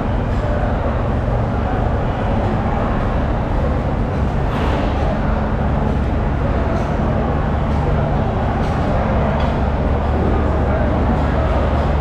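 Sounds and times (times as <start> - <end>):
loud background din: 0.0 - 12.0
machinery humming: 0.0 - 12.0
voices: 0.0 - 12.0.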